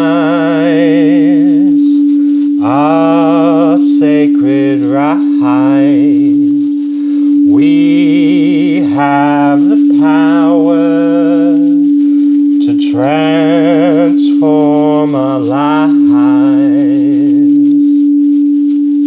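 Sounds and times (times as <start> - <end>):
person singing a chant: 0.0 - 18.2
singing bowl hum: 0.0 - 19.0.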